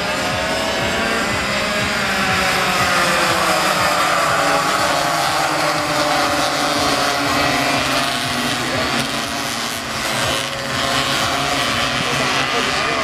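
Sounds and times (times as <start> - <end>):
racing motorcycles at high revs: 0.0 - 13.0.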